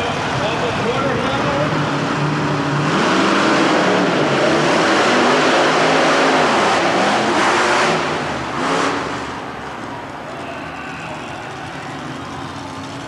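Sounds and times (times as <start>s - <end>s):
monster truck engines revving: 0.0s - 13.0s.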